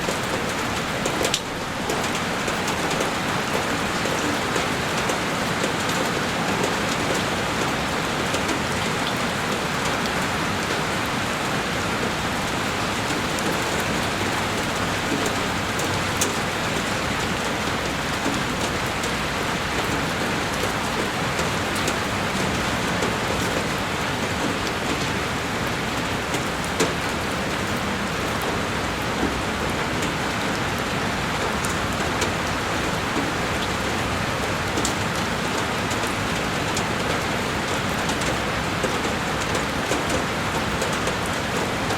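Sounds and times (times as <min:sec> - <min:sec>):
heavy rain on a window: 0:00.0 - 0:41.9.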